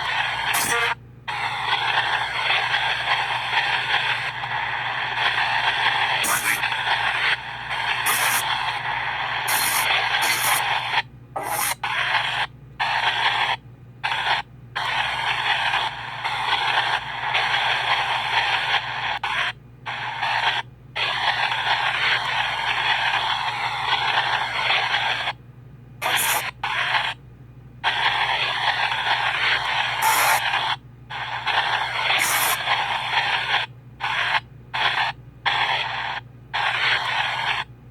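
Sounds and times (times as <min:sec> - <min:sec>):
radio static hiss: 0:00.0 - 0:25.4, 0:26.0 - 0:27.2, 0:27.8 - 0:37.9.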